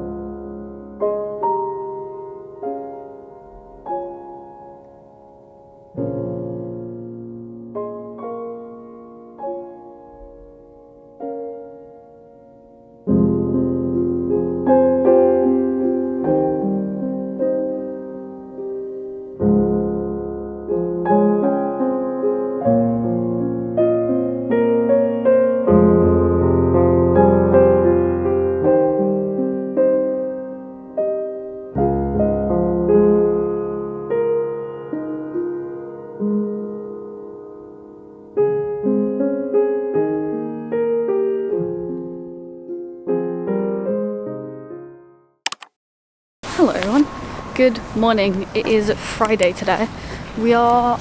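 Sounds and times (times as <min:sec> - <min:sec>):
deep piano bass notes: 0:00.0 - 0:44.9
slow piano chords: 0:00.0 - 0:45.3, 0:46.4 - 0:51.0.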